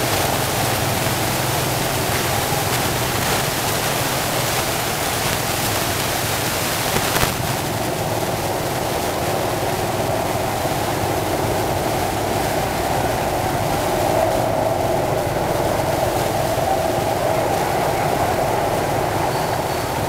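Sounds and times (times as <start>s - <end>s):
road noise: 0.0s - 20.0s
wind noise: 0.0s - 20.0s.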